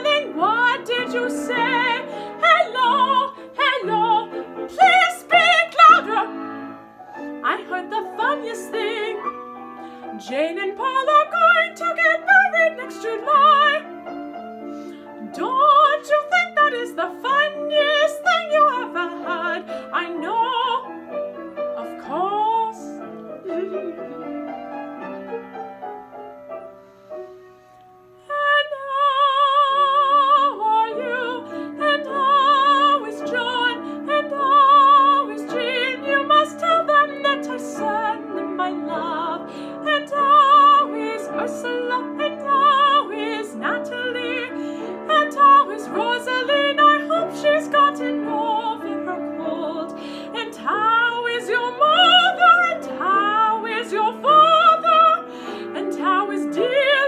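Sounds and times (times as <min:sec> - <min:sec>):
soprano singing opera: 0:00.0 - 0:14.2, 0:14.8 - 0:24.7, 0:28.2 - 0:57.0
piano accompaniment: 0:00.0 - 0:57.0.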